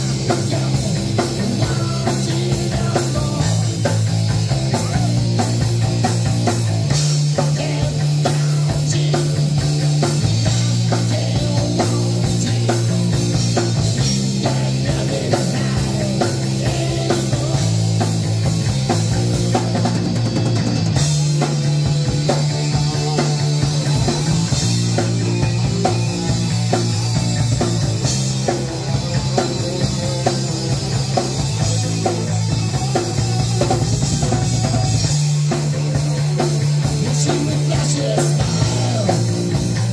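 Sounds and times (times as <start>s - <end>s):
bass guitar low notes: 0.0s - 39.9s
drum kit with cymbals: 0.0s - 39.9s
electric guitar: 0.0s - 39.9s.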